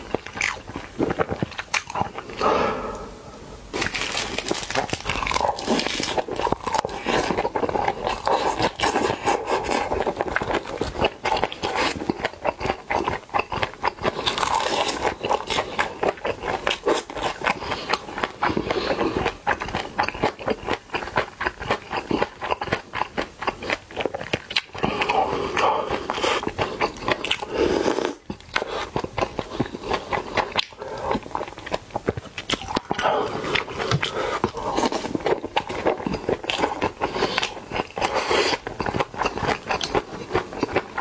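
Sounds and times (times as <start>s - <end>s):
person chewing and slurping: 0.0s - 41.0s.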